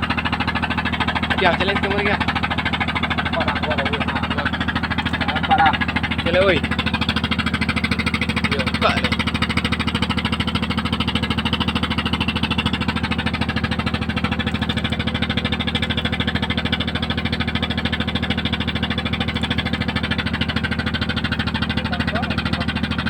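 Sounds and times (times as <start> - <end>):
engine running with fast throb: 0.0 - 23.0.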